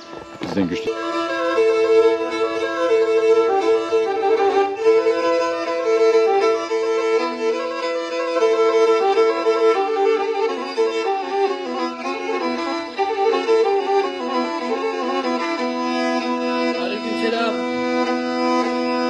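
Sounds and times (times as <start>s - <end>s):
bowed fiddle playing quick tune: 0.0s - 19.0s.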